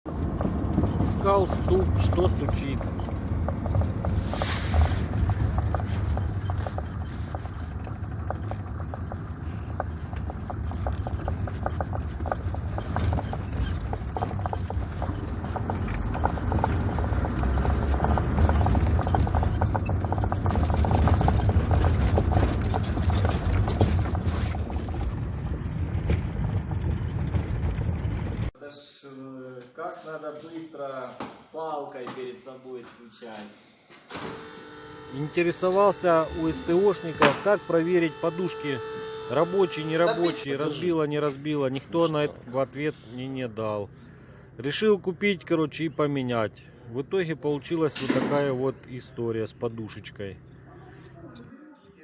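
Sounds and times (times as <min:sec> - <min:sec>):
diesel engine running: 0:00.1 - 0:28.5, 0:34.4 - 0:47.6.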